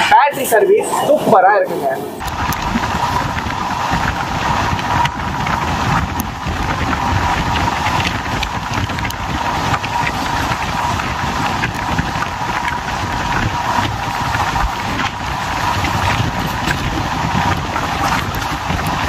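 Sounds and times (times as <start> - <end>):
clicks at rail joints: 2.2 - 19.0
train wheels rumbling on rails: 2.2 - 19.0.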